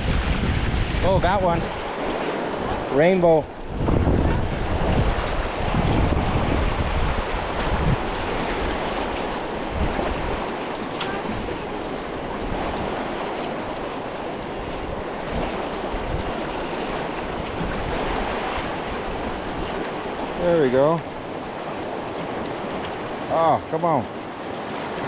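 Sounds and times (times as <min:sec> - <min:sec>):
wind buffeting microphone: 0:00.0 - 0:23.4
river current rushing: 0:00.0 - 0:25.0.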